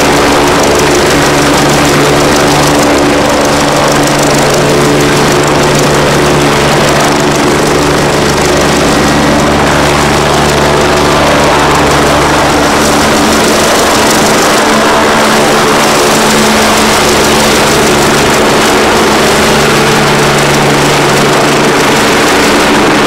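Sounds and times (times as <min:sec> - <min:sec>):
helicopter hovering: 0:00.0 - 0:23.0.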